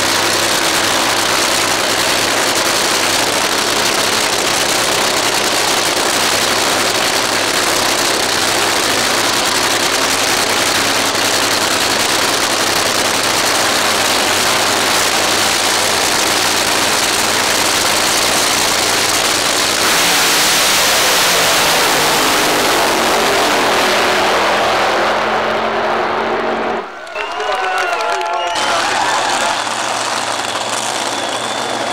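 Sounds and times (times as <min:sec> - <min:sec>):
dragster engines roaring: 0:00.0 - 0:31.9.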